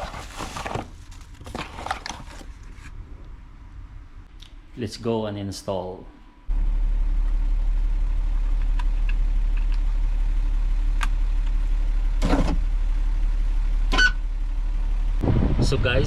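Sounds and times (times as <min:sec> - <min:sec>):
car engine idling: 0:00.0 - 0:15.3.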